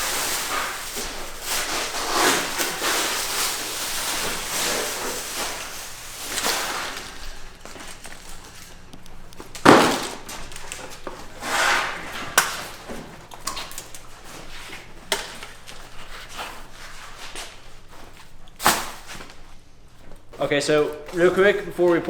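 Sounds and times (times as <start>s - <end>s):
scraping rustle: 0.0s - 8.9s, 9.6s - 22.0s.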